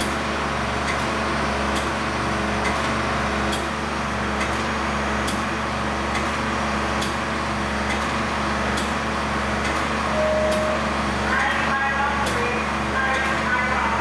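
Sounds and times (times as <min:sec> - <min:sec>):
pump mechanical hum: 0:00.0 - 0:14.0.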